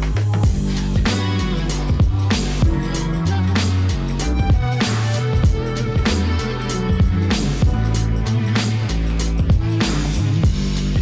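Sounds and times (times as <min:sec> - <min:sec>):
deep bass notes: 0:00.0 - 0:11.0
drum hits at steady beat: 0:00.0 - 0:11.0.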